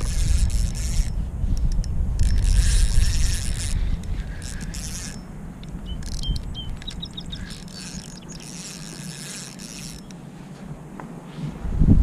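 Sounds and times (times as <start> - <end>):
wind rumble on microphone: 0.0 - 8.4, 9.8 - 12.0
faint reel clicks: 0.0 - 10.2
fishing reel whirring: 0.0 - 10.3.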